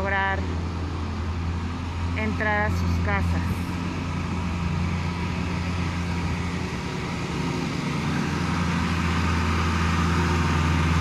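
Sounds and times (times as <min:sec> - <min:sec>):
street noise: 0:00.0 - 0:11.0
vehicle engine running: 0:00.0 - 0:11.0.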